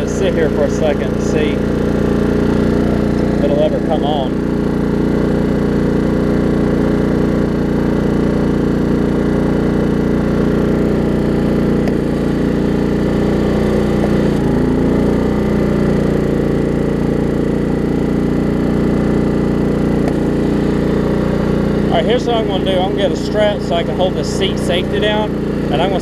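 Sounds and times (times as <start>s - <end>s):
riding mower engine running: 0.0s - 26.0s.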